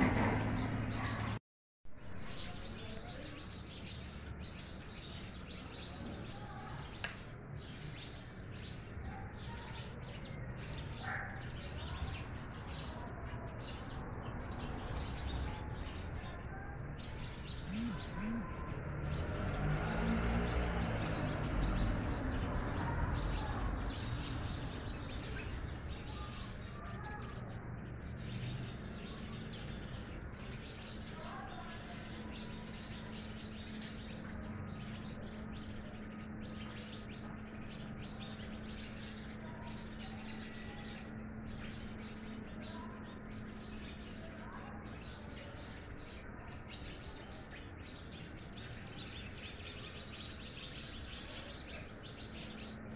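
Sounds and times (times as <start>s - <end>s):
sparrows chirping: 0.0s - 1.4s, 2.0s - 52.9s.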